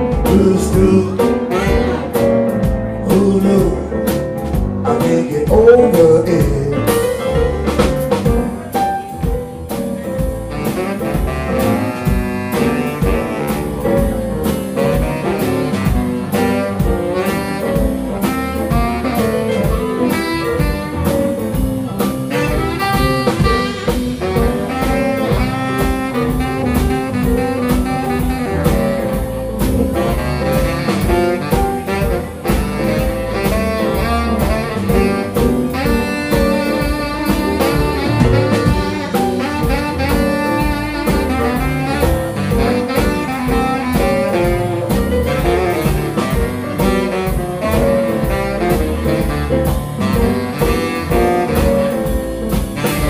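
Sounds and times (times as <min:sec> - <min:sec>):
drum kit beat: 0:00.0 - 0:53.0
piano: 0:00.0 - 0:53.0
saxophone lead: 0:00.0 - 0:53.0
upright bass: 0:00.0 - 0:53.0.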